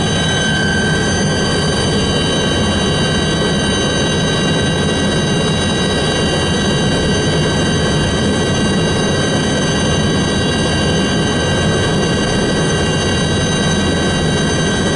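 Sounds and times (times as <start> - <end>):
helicopter rotor and engine noise: 0.0 - 14.9
helicopter turbine whine: 0.0 - 14.9.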